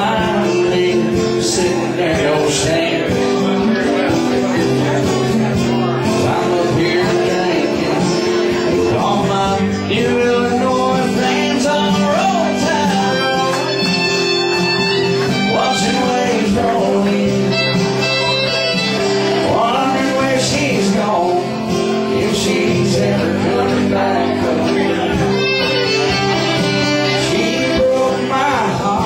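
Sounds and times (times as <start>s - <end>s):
acoustic guitar: 0.0s - 29.0s
small band playing live: 0.0s - 29.0s.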